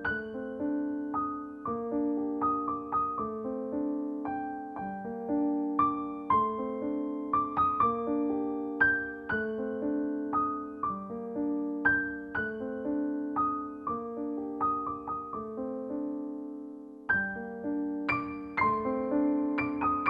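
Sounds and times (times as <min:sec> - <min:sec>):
piano notes and chords: 0:00.0 - 0:20.0.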